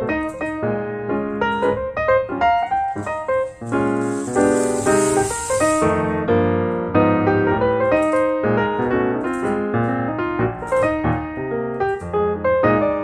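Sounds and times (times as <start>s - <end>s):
piano run of notes: 0.0s - 13.0s.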